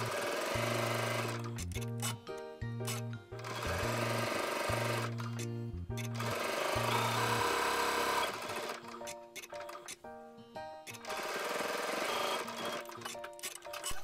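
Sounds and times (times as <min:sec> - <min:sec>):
sewing machine stitching: 0:00.0 - 0:02.2, 0:02.9 - 0:10.0, 0:10.9 - 0:14.0
background music: 0:00.0 - 0:14.0.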